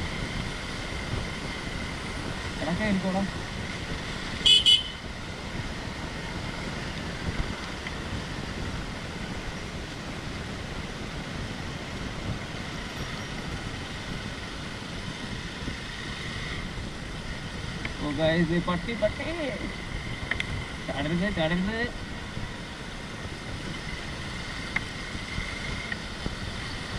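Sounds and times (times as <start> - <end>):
motor vehicle running: 0.0 - 26.9
wind noise on microphone: 0.0 - 26.9.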